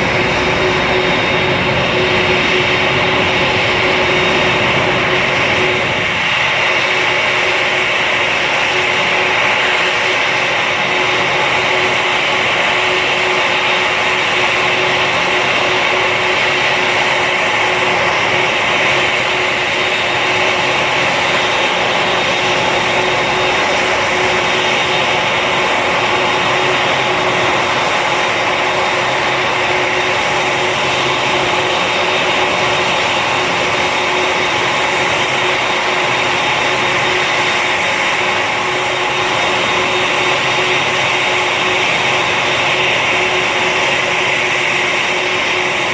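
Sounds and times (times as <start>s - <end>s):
aircraft roar: 0.0s - 45.9s.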